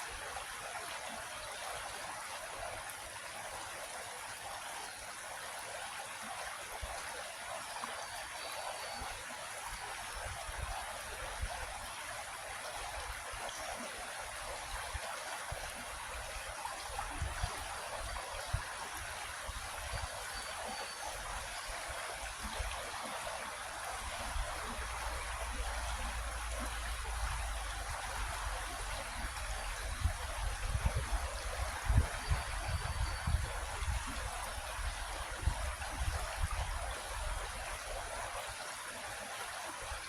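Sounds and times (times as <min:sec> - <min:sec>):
creek water rushing and trickling: 0:00.0 - 0:40.0.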